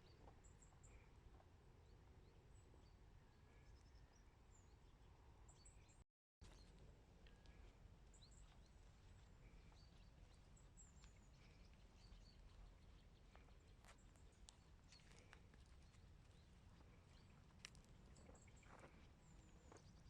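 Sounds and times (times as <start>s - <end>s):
distant birds chirping: 1.8s - 20.0s.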